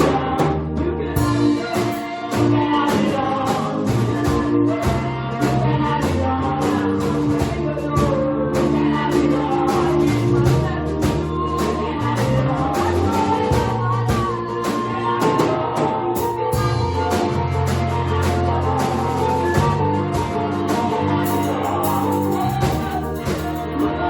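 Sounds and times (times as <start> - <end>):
choir and band music: 0.0 - 24.0.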